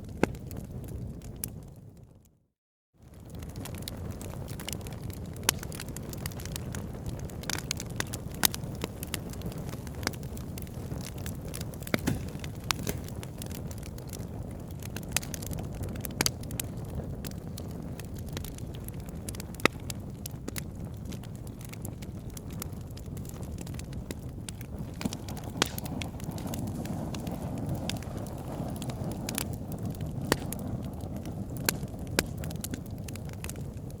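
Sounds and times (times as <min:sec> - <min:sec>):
wood crackling in campfire: 0:00.0 - 0:02.3, 0:03.0 - 0:34.0
low fire rumble: 0:00.0 - 0:02.4, 0:03.0 - 0:34.0.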